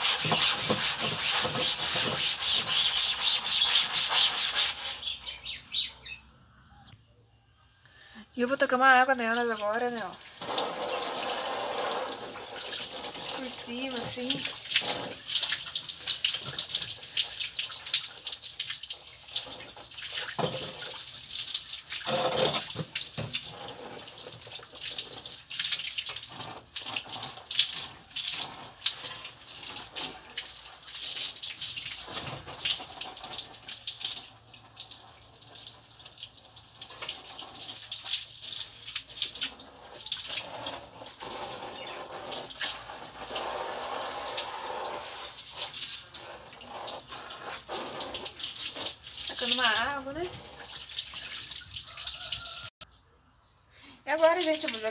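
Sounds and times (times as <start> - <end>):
hose water splashing on metal: 0.0 - 5.2, 8.6 - 54.9.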